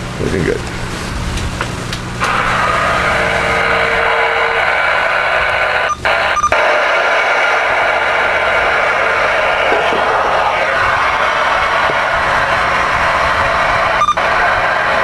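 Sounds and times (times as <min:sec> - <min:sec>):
radio static hiss: 0:02.2 - 0:15.0.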